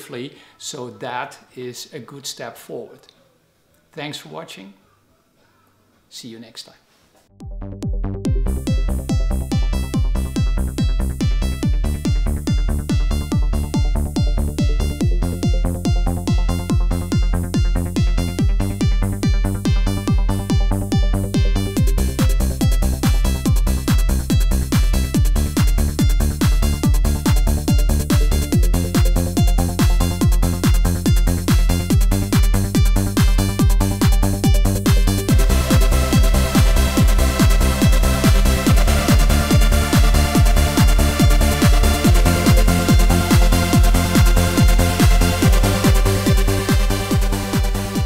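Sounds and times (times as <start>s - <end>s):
electronic dance music: 7.9s - 48.0s.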